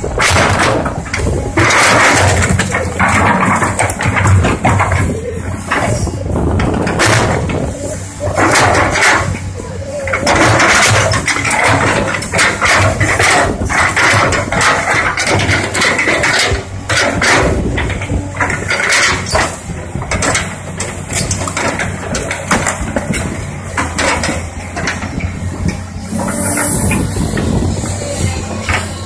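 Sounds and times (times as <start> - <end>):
heavy diesel machinery running: 0.0 - 29.0
knocks and clanks: 0.0 - 29.0.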